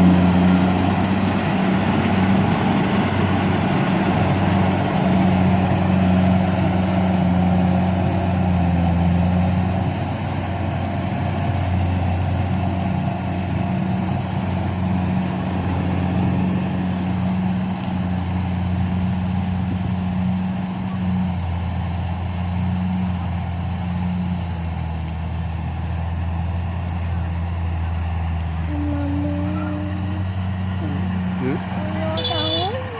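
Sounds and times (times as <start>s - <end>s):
combine harvester engine drone: 0.0s - 32.9s.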